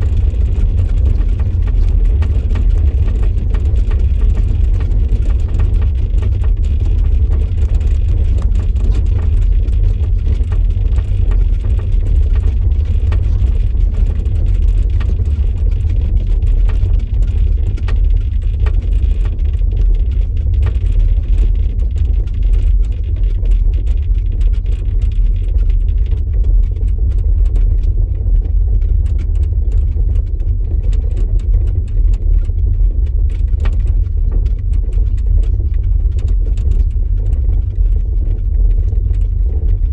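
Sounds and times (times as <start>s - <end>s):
faint ticks and rattles: 0.0s - 39.9s
low road rumble of car: 0.0s - 39.9s.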